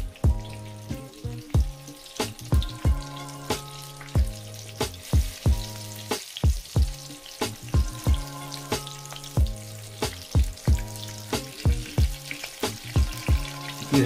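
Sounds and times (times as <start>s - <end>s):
background music with drum beat: 0.0s - 14.0s
spring rolls sizzling in hot oil: 0.0s - 14.0s.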